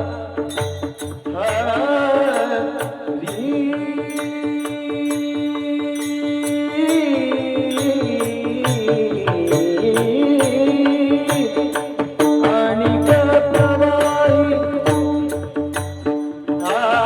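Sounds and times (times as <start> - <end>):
small hand cymbals striking: 0.4 - 16.9.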